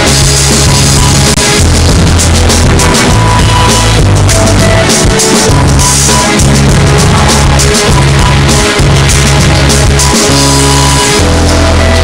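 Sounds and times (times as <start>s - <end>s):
loud music with steady beat: 0.0s - 12.0s.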